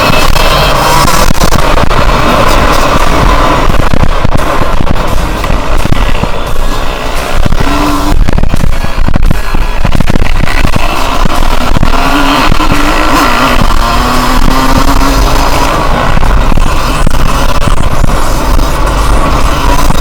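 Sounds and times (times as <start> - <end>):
dirt bike engine running hard: 0.0 - 20.0
wind buffeting: 0.0 - 20.0.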